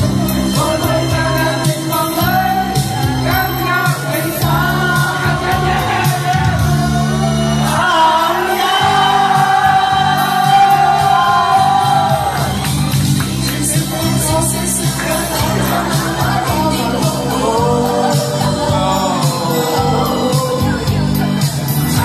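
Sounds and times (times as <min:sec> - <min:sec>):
group singing: 0:00.0 - 0:12.6, 0:13.3 - 0:22.0
instrumental backing music: 0:00.0 - 0:22.0.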